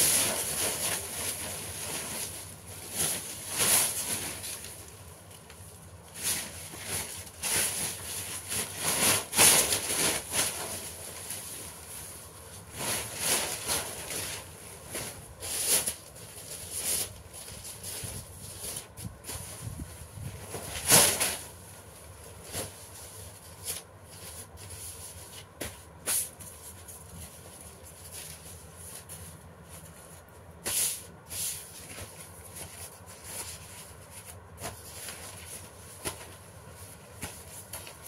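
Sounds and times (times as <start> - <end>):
paper rustling and crinkling: 0.0 - 38.0.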